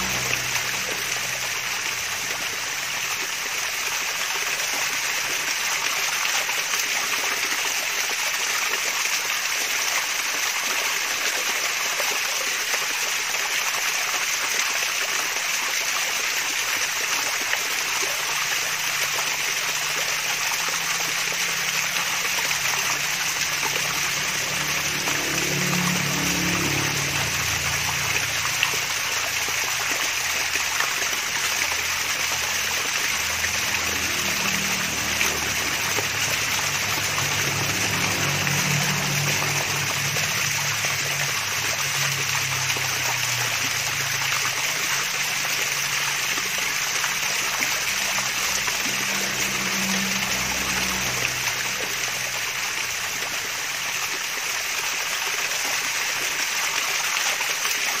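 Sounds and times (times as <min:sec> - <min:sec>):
waterfall splashing and trickling: 0:00.0 - 0:58.0.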